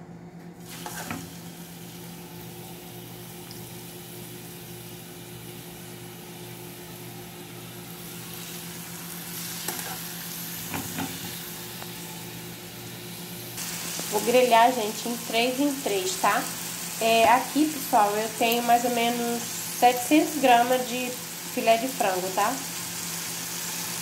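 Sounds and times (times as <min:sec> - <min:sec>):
chicken sizzling in frying pan: 0:00.6 - 0:24.0.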